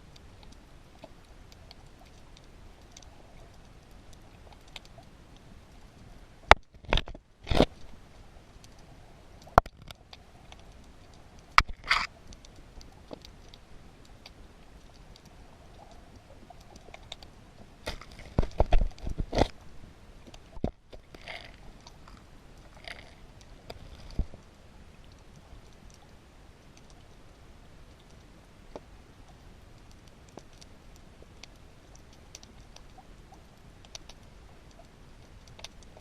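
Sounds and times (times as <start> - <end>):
underwater clicks and crackles: 0.0 - 36.0.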